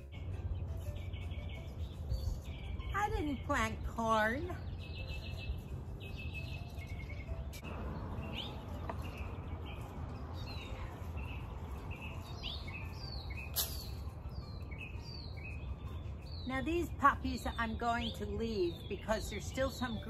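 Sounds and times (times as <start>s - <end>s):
small songbirds chirping: 0.0s - 20.0s.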